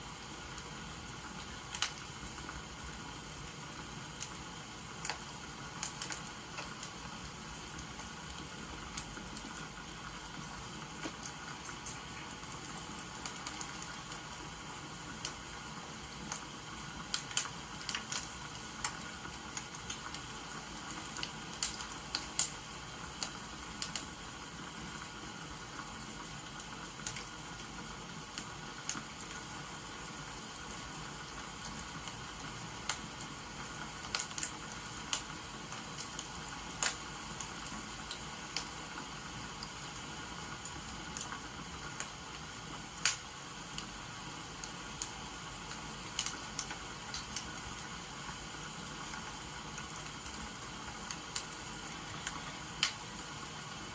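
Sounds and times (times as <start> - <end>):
firewood crackling and popping: 0.0 - 53.9
steady hiss: 0.0 - 53.9.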